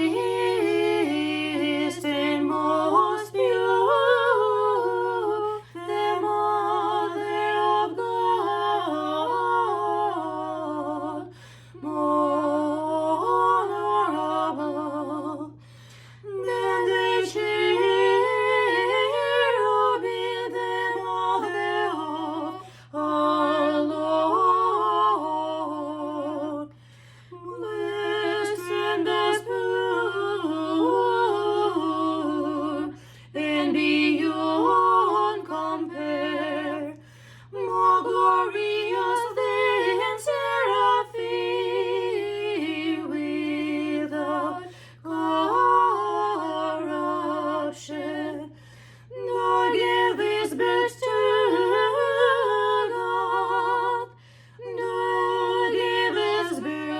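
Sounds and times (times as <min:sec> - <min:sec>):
voices singing a hymn in harmony: 0:00.0 - 0:56.9.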